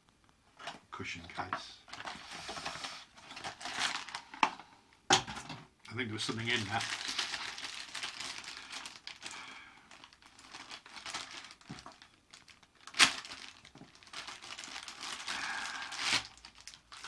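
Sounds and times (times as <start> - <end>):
packaging rustling and crinkling: 1.4 - 4.7, 6.2 - 17.0.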